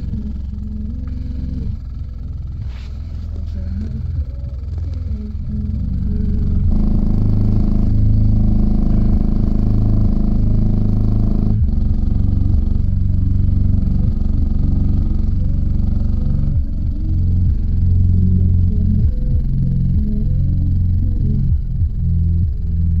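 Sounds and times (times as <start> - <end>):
subwoofer playing deep bass notes: 0.0 - 23.0.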